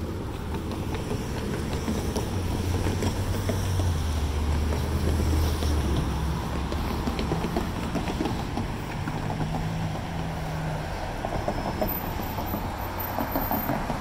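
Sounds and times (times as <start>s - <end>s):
passing vehicle engine rumble: 0.0s - 14.0s
steady road noise: 0.0s - 14.0s.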